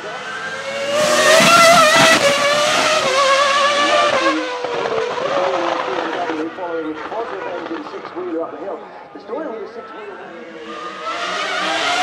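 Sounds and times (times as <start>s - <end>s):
racing car engine passing: 0.0s - 8.2s, 10.2s - 12.0s.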